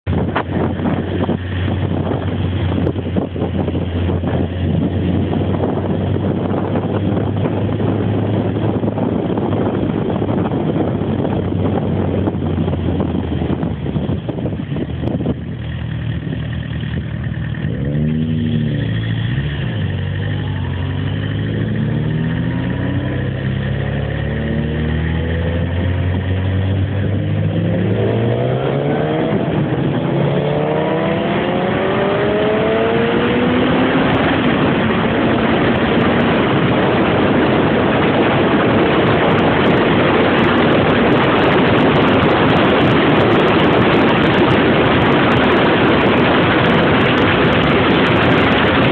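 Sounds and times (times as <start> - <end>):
motorcycle engine accelerating: 0.0 - 48.9
wind noise on microphone: 0.0 - 48.9.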